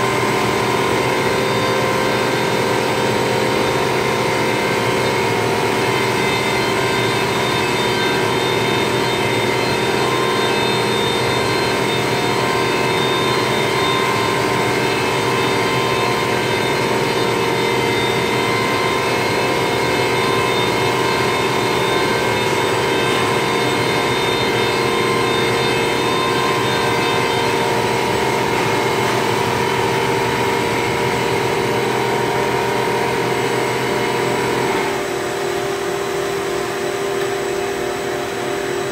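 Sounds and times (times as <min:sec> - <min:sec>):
printer mechanical whirr: 0:00.0 - 0:38.9
whining tones: 0:00.0 - 0:38.9.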